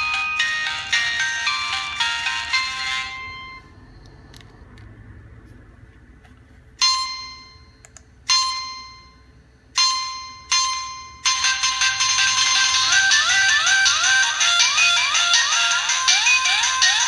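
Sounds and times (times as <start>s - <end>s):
phone ringtone: 0.0s - 3.8s, 6.8s - 17.0s.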